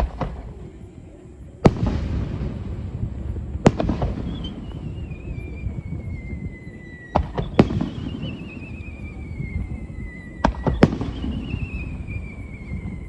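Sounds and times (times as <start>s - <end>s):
fireworks bangs: 0.0s - 13.0s
falling firework whistle: 1.6s - 13.0s.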